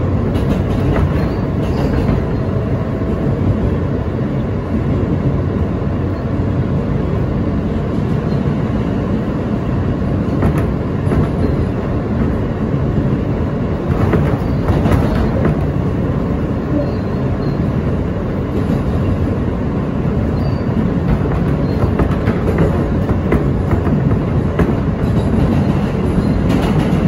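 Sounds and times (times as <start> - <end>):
subway wheels rumbling on rail: 0.0 - 27.0.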